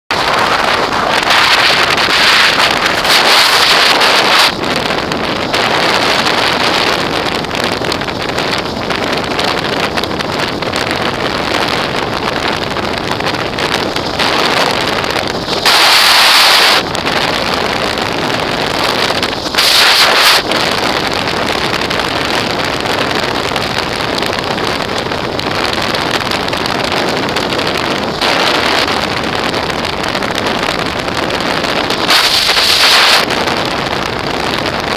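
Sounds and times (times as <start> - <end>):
road noise: 0.1 - 34.9
wind buffeting microphone: 0.1 - 34.9.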